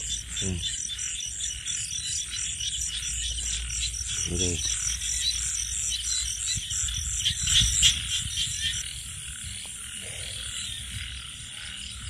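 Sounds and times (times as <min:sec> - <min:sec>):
frogs croaking: 0:00.0 - 0:12.0.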